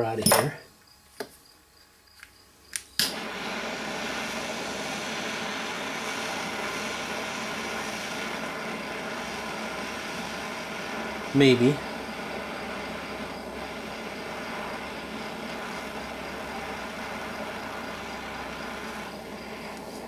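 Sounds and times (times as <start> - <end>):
heating tool hissing: 2.8 - 20.0.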